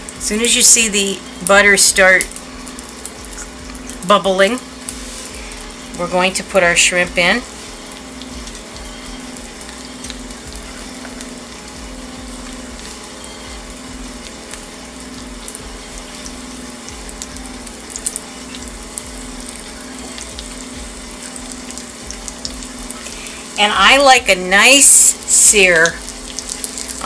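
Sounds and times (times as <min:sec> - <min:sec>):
shrimp sizzling in a frying pan: 0:00.0 - 0:27.0.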